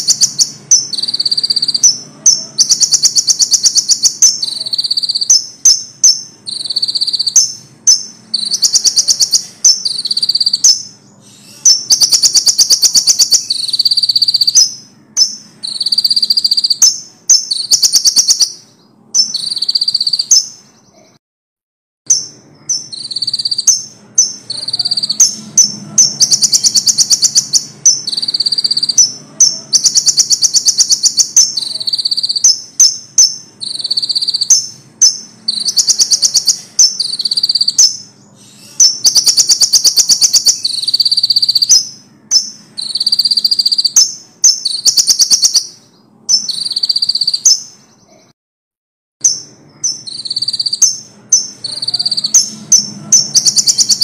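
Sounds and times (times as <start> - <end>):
songbird whistling and trilling: 0.0 - 21.1, 22.1 - 47.9, 49.2 - 54.0.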